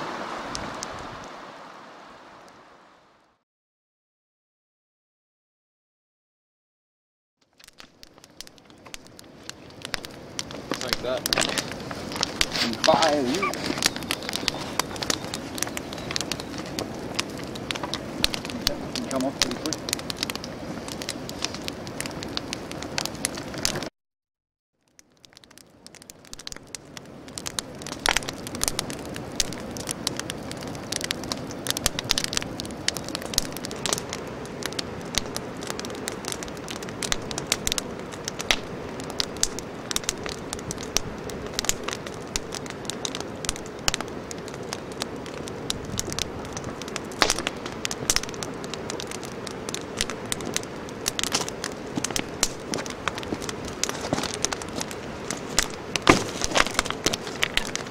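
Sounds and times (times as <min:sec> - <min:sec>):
crackling with sharp pops: 0:00.0 - 0:02.7, 0:07.4 - 0:23.9, 0:24.8 - 0:57.9
constant hiss: 0:00.0 - 0:03.4, 0:07.8 - 0:23.7, 0:25.7 - 0:57.9.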